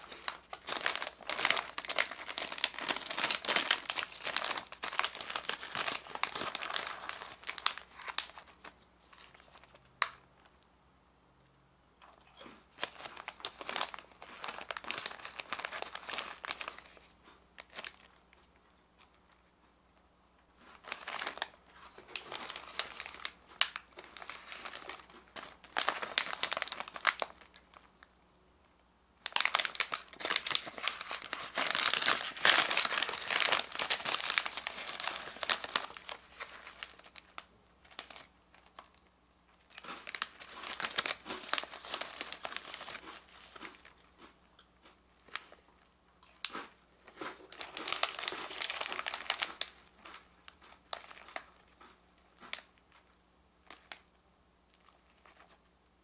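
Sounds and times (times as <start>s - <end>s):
plastic snack packets crinkling: 0.0s - 10.6s, 12.3s - 19.5s, 20.6s - 28.1s, 29.2s - 55.7s.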